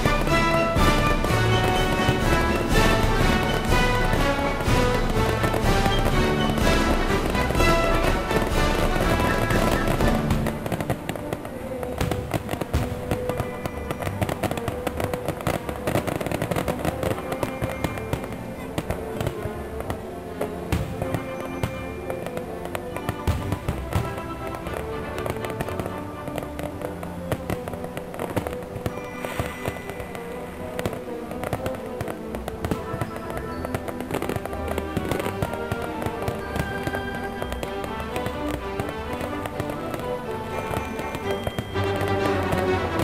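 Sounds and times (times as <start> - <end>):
firework shells bursting: 0.0 - 43.0
music playing: 0.0 - 43.0.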